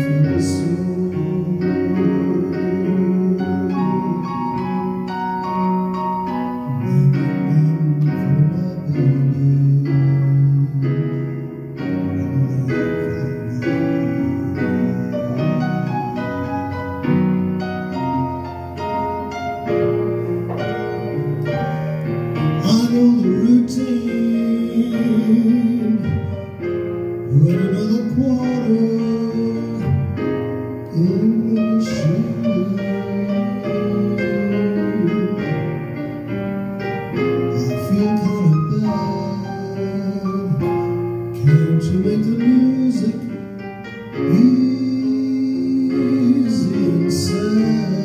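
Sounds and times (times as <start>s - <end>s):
man singing into a microphone: 0.0s - 16.8s, 19.6s - 36.2s, 37.1s - 48.0s
keyboard backing track: 0.0s - 48.0s.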